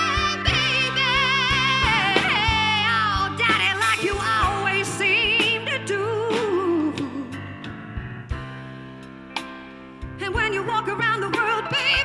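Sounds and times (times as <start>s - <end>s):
live rock band with drums: 0.0s - 12.0s.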